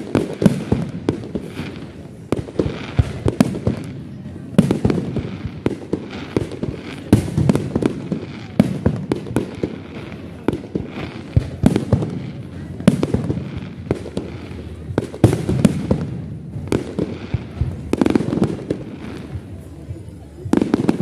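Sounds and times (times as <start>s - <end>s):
firework crackle: 0.0s - 21.0s.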